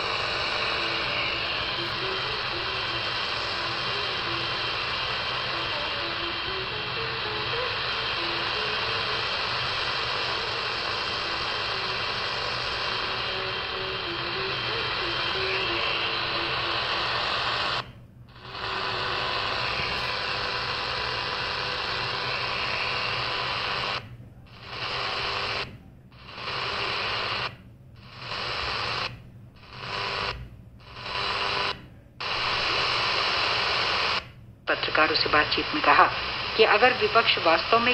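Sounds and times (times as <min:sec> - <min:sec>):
faint radio tones: 0:00.0 - 0:37.9
radio hiss and static: 0:00.0 - 0:37.9.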